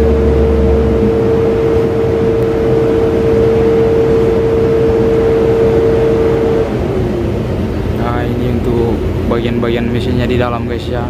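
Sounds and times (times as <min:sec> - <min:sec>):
steady whine: 0:00.0 - 0:11.0
truck diesel engine running: 0:00.0 - 0:11.0.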